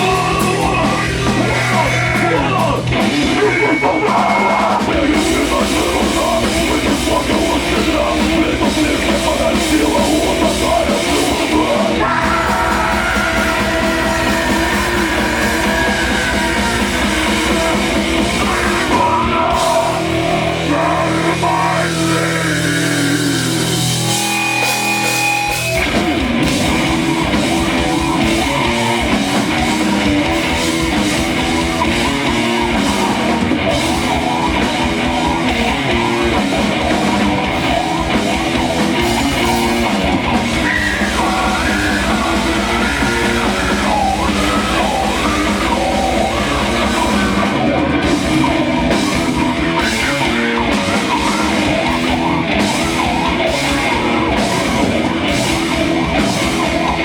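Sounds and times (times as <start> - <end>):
live punk metal band: 0.0 - 57.0
shouted vocals: 0.0 - 57.0.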